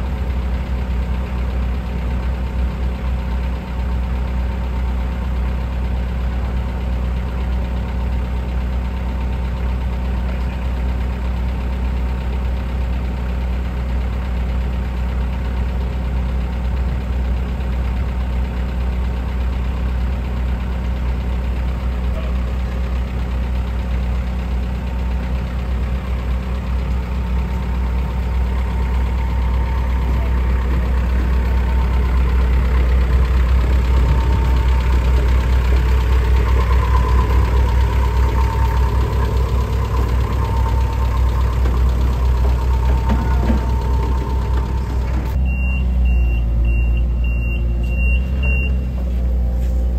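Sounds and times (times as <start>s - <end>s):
forklift engine low hum: 0.0s - 49.9s.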